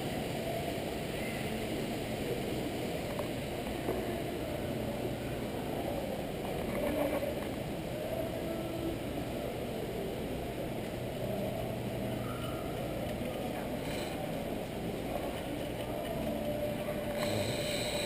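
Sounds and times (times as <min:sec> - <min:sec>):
faint distant indistinct sounds: 0:00.0 - 0:18.0.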